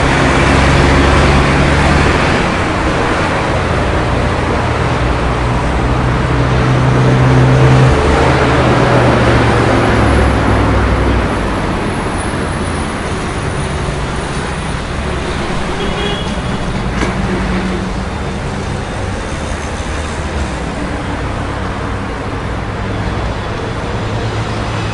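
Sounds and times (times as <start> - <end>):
cars and buses going by: 0.0 - 24.9
large vehicle engine drone: 0.0 - 24.9.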